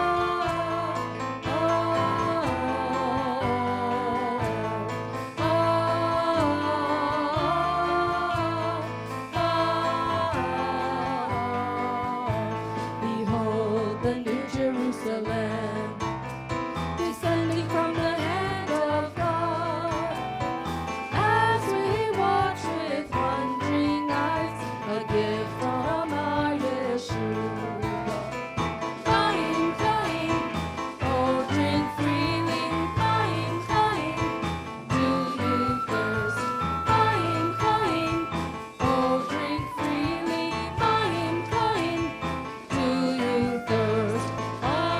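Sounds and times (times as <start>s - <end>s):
person singing: 0.0s - 16.3s, 17.0s - 44.9s
band playing worship music: 0.0s - 44.9s
bass notes: 0.0s - 44.9s.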